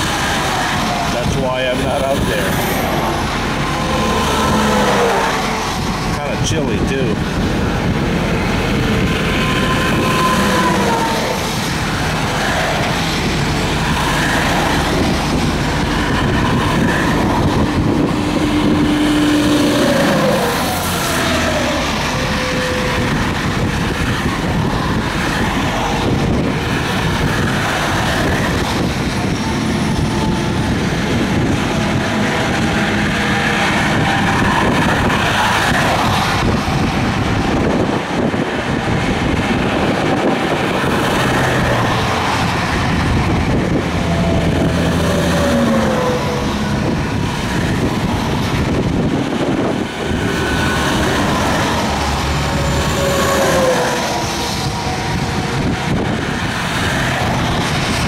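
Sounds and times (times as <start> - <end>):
highway traffic passing: 0.0 - 58.0.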